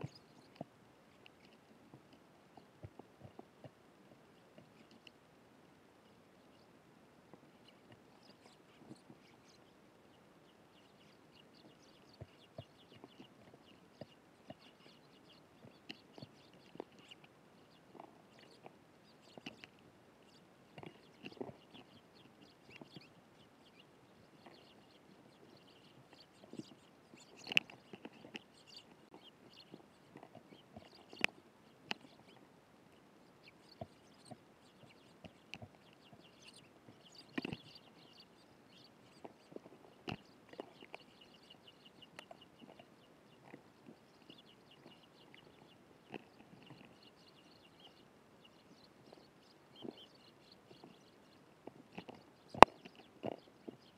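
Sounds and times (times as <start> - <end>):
sparrows chirping: 0.0 - 1.7, 7.4 - 53.9.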